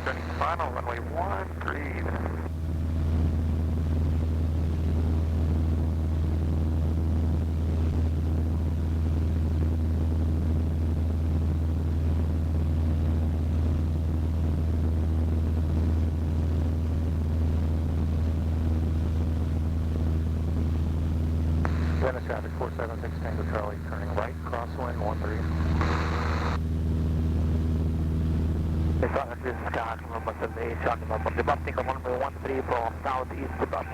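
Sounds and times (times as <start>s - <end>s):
airplane engine drone from cockpit: 0.0s - 33.9s.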